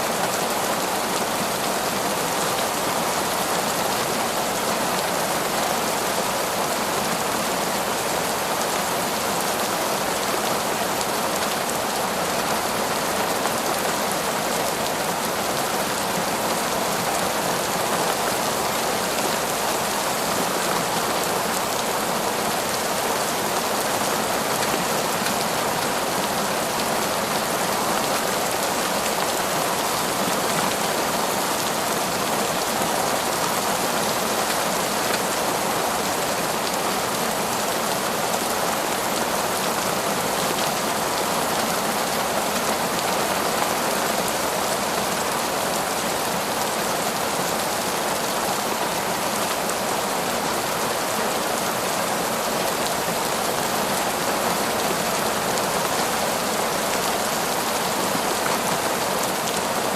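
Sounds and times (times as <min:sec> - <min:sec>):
torrential rain on foliage: 0:00.0 - 0:59.9.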